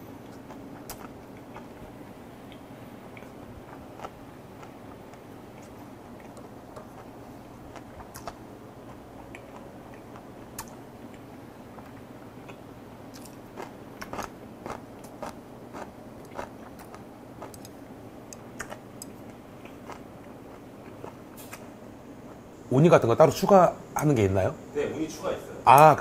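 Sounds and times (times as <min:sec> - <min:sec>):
low room hum: 0:00.0 - 0:26.0
person chewing with wet clicks: 0:00.2 - 0:21.7.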